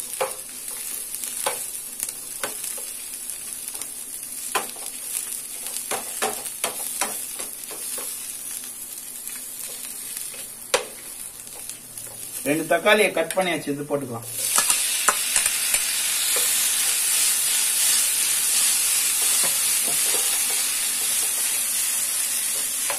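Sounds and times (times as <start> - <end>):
onions sizzling in butter: 0.0 - 22.9.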